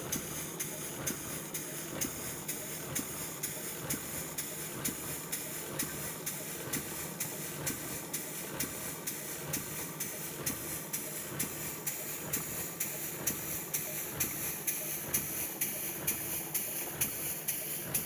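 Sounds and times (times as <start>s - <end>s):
steam engine exhaust beating: 0.0s - 18.0s.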